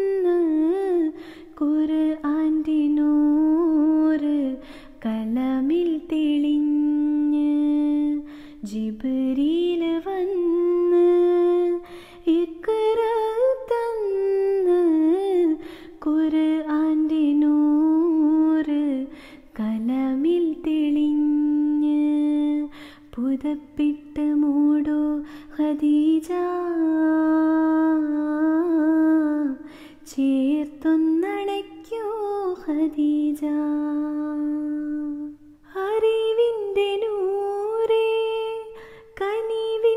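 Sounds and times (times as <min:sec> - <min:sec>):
woman singing a cappella: 0:00.0 - 0:39.9.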